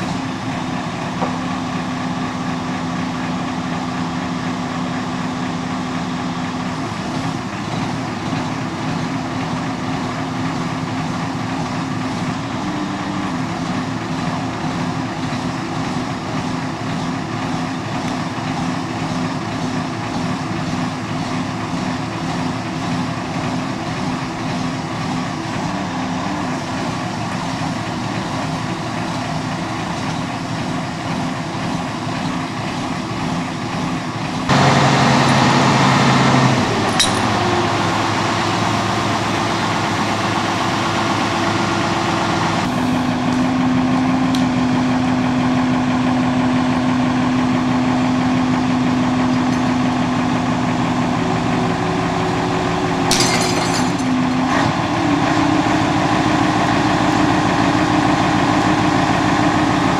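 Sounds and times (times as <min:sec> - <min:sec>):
diesel truck engines running: 0:00.0 - 0:59.9.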